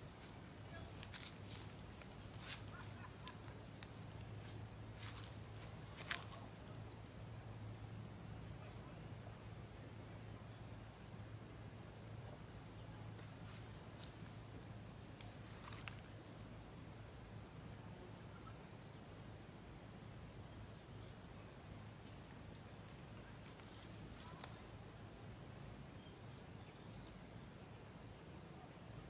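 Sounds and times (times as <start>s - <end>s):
high-pitched insect chorus: 0.0s - 29.0s
low steady hum: 0.0s - 29.0s.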